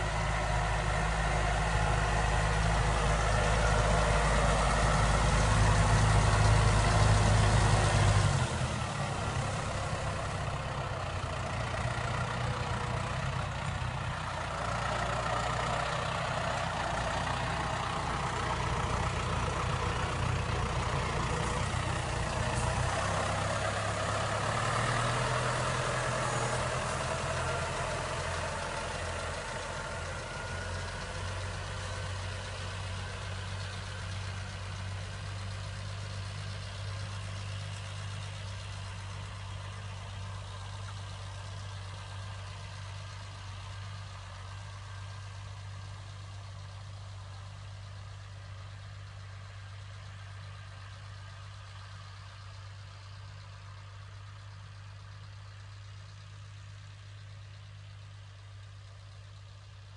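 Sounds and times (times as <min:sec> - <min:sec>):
tractor engine drone: 0:00.0 - 0:59.9.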